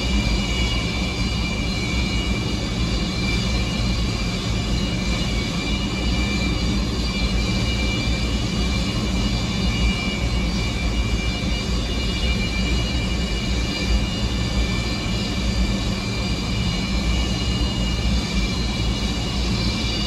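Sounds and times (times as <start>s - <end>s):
high engine whine: 0.0s - 20.0s
jet engines low rumble: 0.0s - 20.0s.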